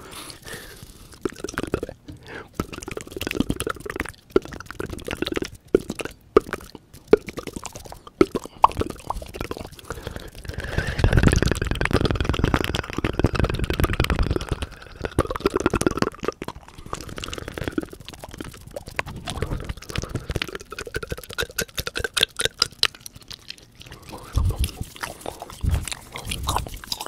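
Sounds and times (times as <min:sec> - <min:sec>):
wet mouth clicks and pops: 0:00.0 - 0:27.0.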